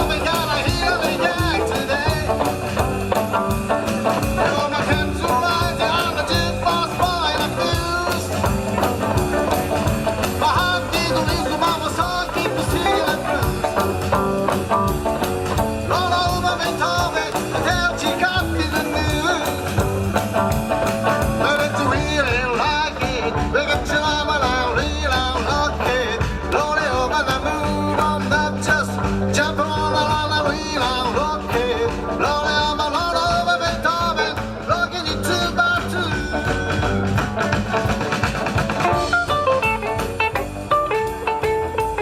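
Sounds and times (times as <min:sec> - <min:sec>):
live rock band playing: 0:00.0 - 0:42.0.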